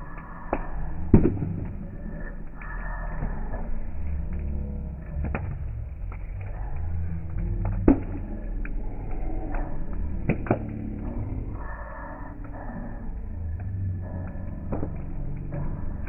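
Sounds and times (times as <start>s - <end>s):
campfire rumble: 0.0s - 16.0s.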